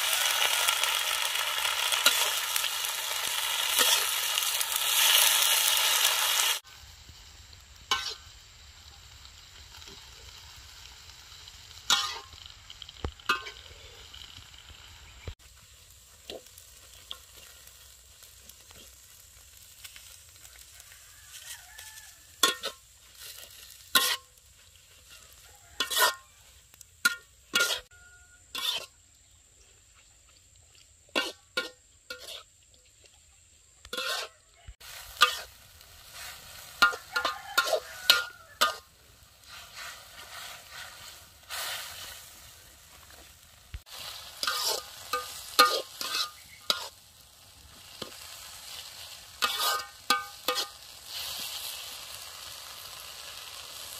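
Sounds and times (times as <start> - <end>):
metal spatula scraping a wok: 0.0 - 6.6, 7.8 - 8.4, 11.3 - 12.5, 13.3 - 14.3, 16.1 - 29.0, 31.1 - 32.5, 33.9 - 53.9
faint sizzle: 0.0 - 53.9.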